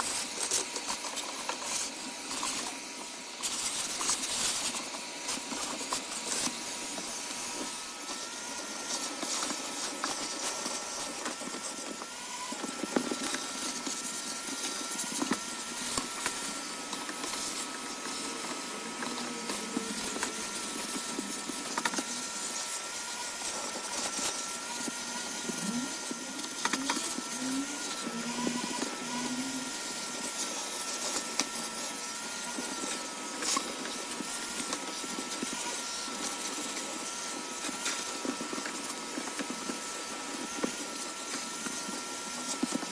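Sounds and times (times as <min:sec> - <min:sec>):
vacuum cleaner motor whine: 0:00.0 - 0:42.9.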